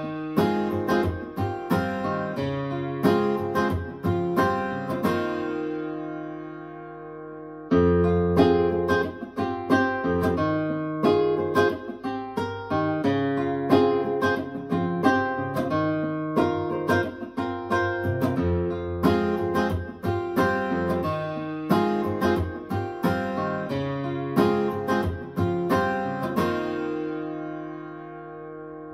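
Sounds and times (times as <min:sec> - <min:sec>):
plucked acoustic guitar music: 0:00.0 - 0:28.9.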